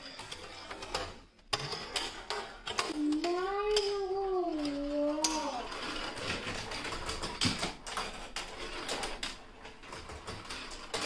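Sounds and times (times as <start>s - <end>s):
marbles clattering down track: 0.0s - 11.0s.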